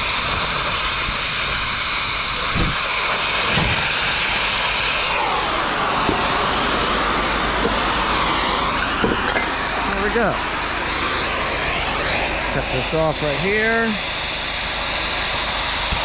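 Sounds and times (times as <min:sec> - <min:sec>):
cutting torch flame hissing: 0:00.0 - 0:16.0.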